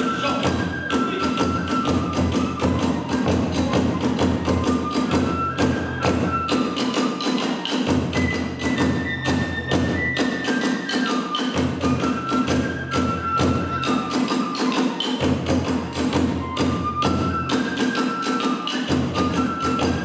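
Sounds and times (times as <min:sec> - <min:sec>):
bamboo flute melody: 0:00.0 - 0:20.0
fast taiko drum strokes: 0:00.0 - 0:20.0.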